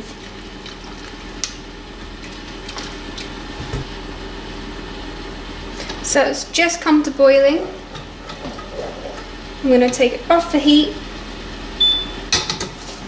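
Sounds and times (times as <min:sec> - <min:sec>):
saucepan hissing on the boil: 0:00.0 - 0:11.8.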